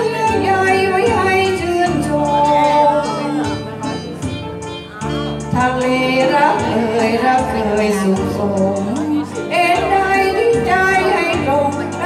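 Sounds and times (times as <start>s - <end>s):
karaoke backing track: 0.0s - 12.0s
woman singing into a microphone: 0.0s - 12.0s.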